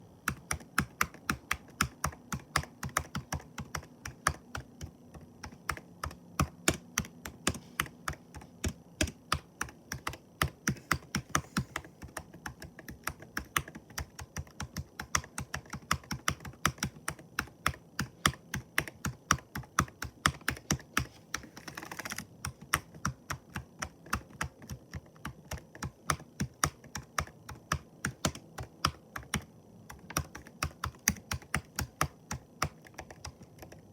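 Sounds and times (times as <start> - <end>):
typing on computer keyboard: 0.2 - 33.9.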